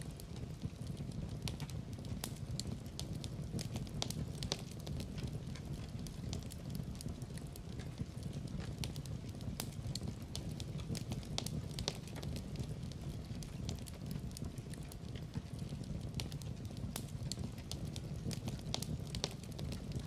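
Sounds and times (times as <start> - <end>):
crackles and pops of burning wood: 0.0 - 20.0
low rumble of flames: 0.0 - 20.0.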